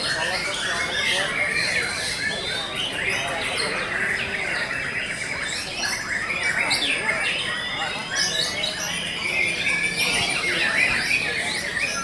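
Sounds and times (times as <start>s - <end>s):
birds singing and trilling: 0.0s - 12.0s.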